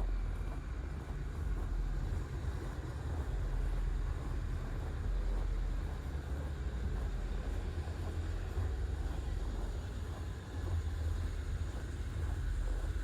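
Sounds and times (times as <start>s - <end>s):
low rumble of city street: 0.0s - 13.0s.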